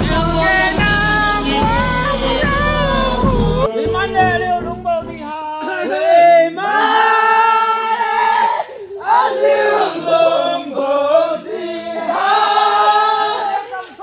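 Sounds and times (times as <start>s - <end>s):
voices singing unaccompanied: 0.0s - 14.0s.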